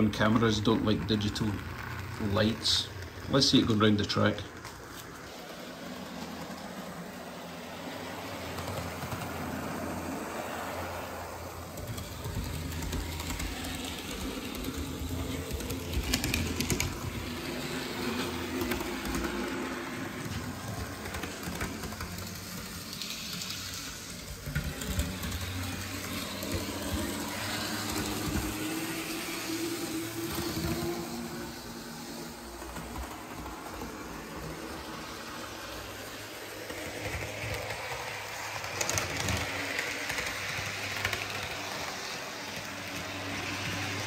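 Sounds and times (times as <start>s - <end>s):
wheels rumbling on rails: 0.0s - 44.0s
model train motor whine: 5.0s - 44.0s.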